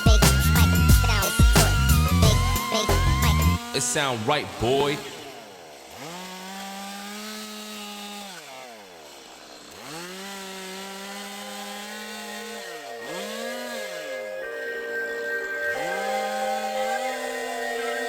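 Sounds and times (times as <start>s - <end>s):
chainsaw revving and idling: 0.0s - 14.9s.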